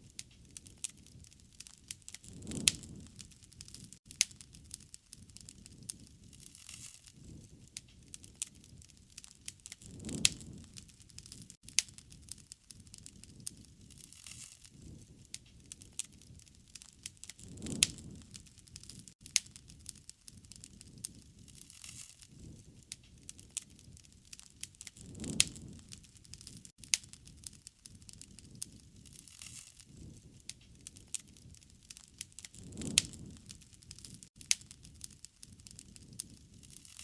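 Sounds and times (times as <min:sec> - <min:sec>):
campfire crackling: 0:00.0 - 0:37.0
loud fire pops with low rush: 0:00.0 - 0:37.0.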